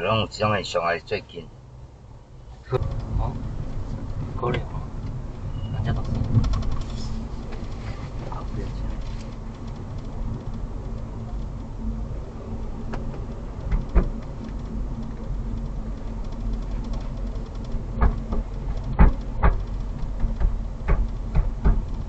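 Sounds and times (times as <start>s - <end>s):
road rumble inside car: 0.0s - 22.0s.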